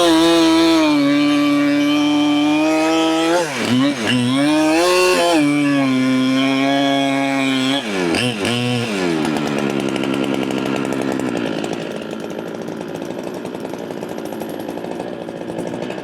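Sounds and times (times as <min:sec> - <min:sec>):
chainsaw revving and idling: 0:00.0 - 0:16.0.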